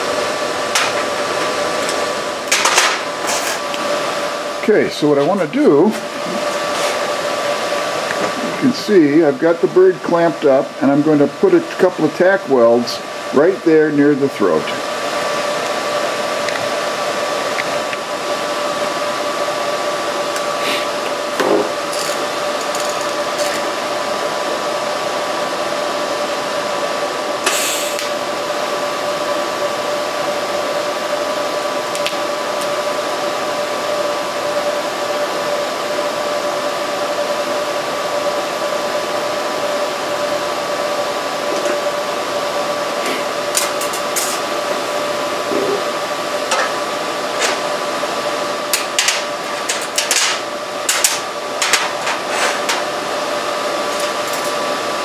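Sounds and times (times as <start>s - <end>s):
welding torch hum with high whine: 0.0s - 55.0s.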